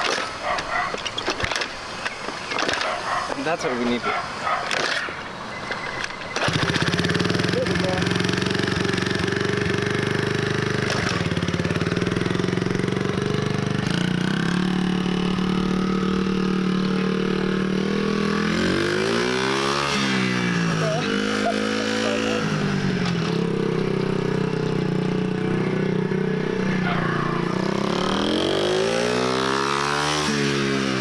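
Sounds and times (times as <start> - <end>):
dirt bike engine revving: 2.5 - 31.0.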